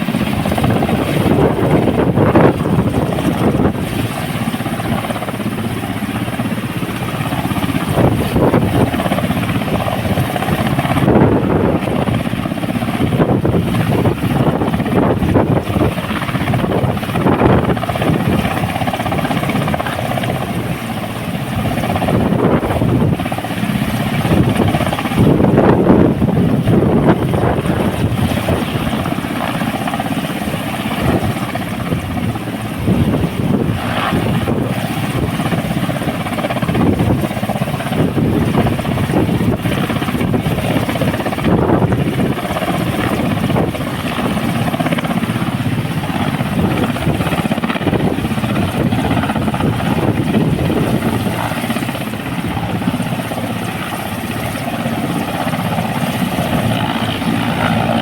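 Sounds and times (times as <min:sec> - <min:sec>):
helicopter running: 0:00.0 - 0:58.0.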